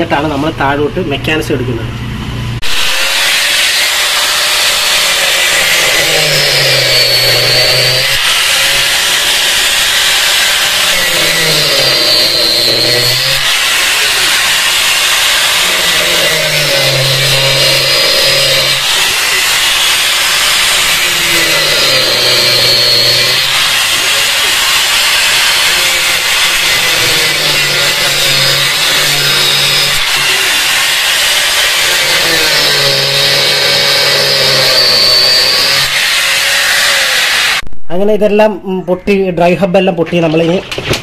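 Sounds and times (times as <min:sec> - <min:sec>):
angle grinder cutting metal: 0:02.6 - 0:37.7.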